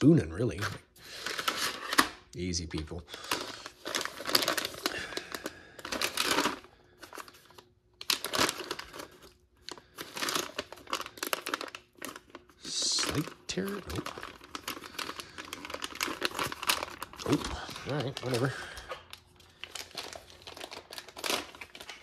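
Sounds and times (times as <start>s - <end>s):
plastic wrapping crinkling: 2.7s - 22.0s.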